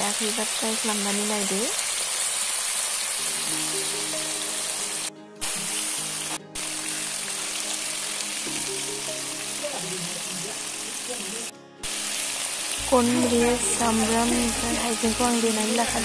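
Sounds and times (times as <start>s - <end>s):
chicken and onions sizzling: 0.0s - 16.0s.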